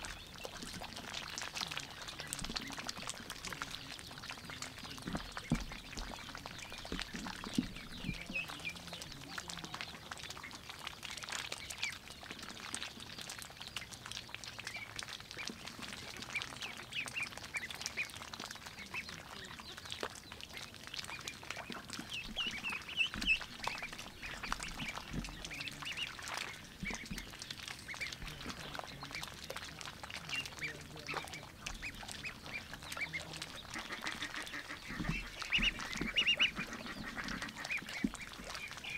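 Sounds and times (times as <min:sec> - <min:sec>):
ducklings dabbling in water: 0:00.0 - 0:38.9
ducklings high calls: 0:00.0 - 0:38.9.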